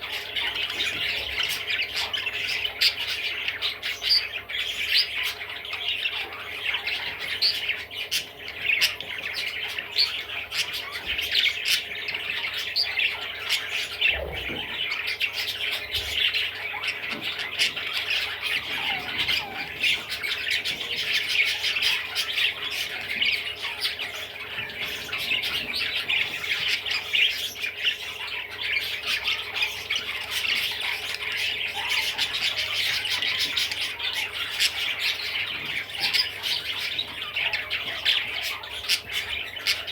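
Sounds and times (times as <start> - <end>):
budgerigar chattering and warbling: 0.0 - 39.9.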